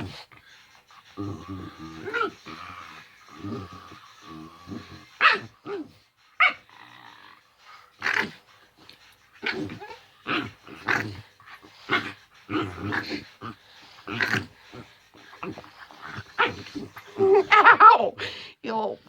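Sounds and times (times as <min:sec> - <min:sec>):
dog growling and barking: 0:00.0 - 0:18.3.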